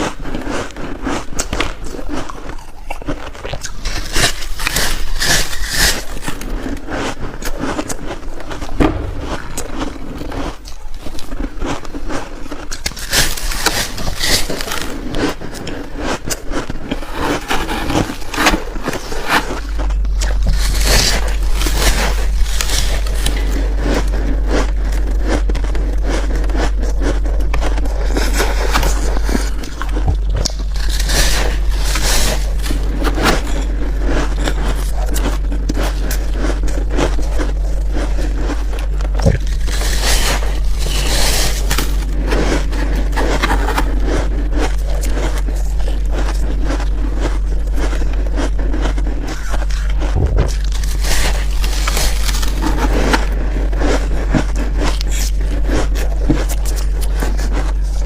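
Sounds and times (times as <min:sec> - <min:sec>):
chewing crunchy ice: 0:00.0 - 0:58.0
steady low hum: 0:00.0 - 0:58.0.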